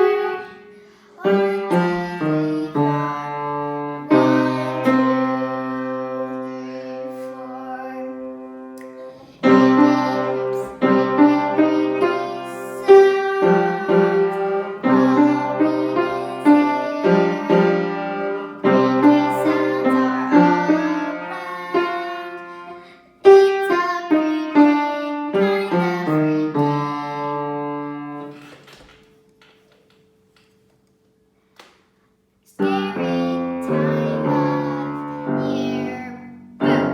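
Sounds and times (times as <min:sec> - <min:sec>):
solo piano playing: 0:00.0 - 0:28.3, 0:32.6 - 0:36.9.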